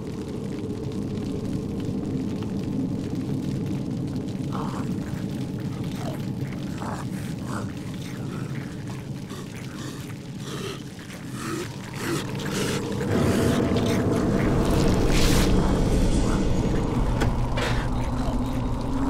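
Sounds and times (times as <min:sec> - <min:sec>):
low rumbling drone: 0:00.0 - 0:19.0.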